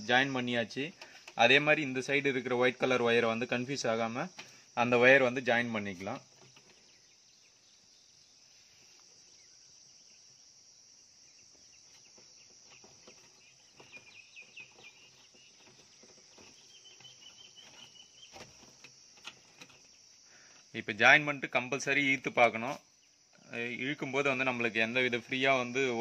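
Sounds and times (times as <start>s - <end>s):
faint insect noise: 0.0s - 26.0s
rapid chirping trills: 0.0s - 26.0s.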